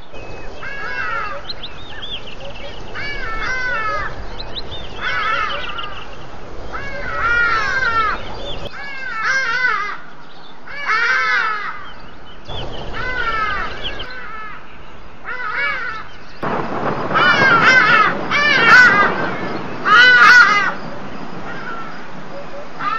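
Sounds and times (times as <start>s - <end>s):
bird cawing: 0.4s - 10.1s, 10.7s - 22.9s.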